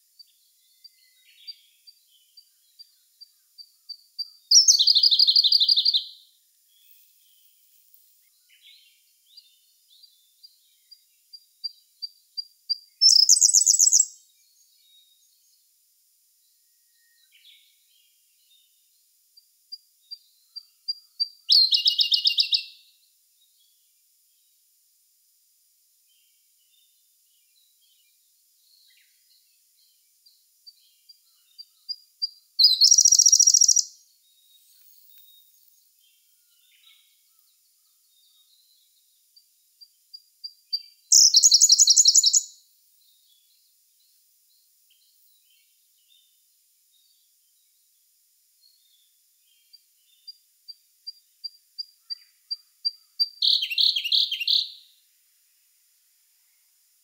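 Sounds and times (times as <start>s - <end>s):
bird song with rapid trill: 0.0s - 24.7s, 26.0s - 55.6s.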